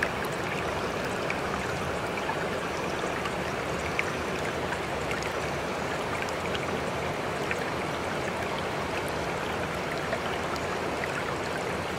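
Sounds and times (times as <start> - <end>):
running water: 0.0 - 11.9.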